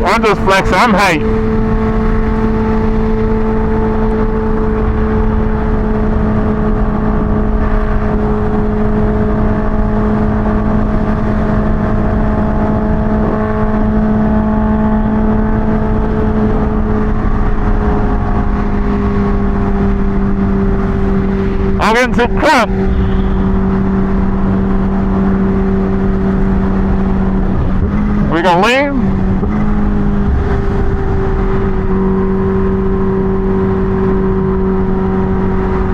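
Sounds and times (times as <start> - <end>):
motorcycle engine droning: 0.0 - 35.9
wind noise: 0.0 - 35.9.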